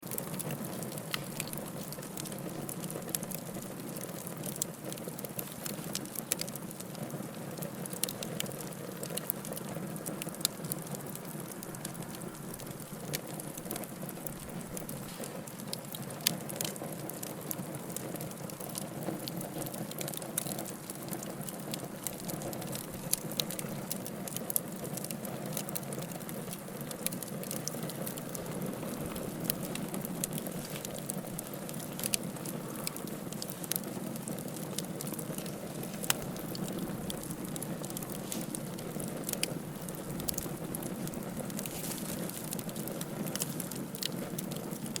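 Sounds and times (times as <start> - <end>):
fire crackles and pops: 0.0 - 45.0
wood fire flames rushing: 0.0 - 45.0.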